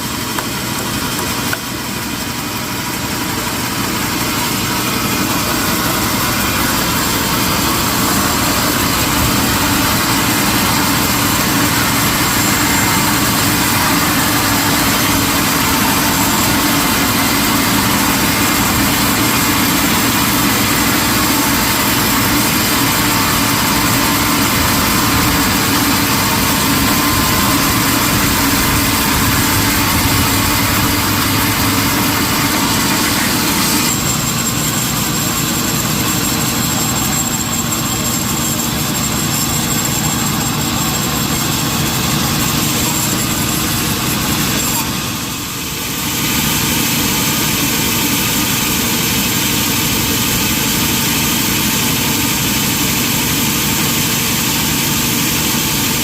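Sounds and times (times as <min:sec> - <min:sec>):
sawmill machinery drone: 0:00.0 - 0:56.0.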